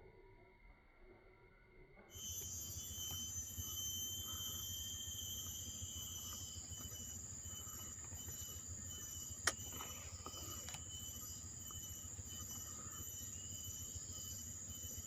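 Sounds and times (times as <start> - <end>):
insects droning: 2.1 - 15.0.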